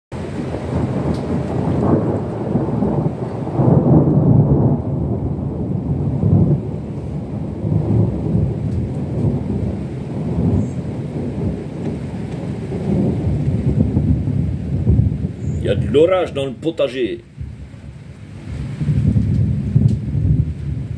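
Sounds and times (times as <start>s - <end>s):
thunder rumbling: 0.1s - 20.9s.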